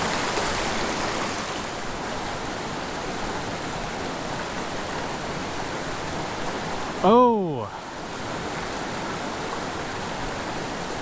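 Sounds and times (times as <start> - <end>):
creek water rushing over rocks: 0.0 - 11.0.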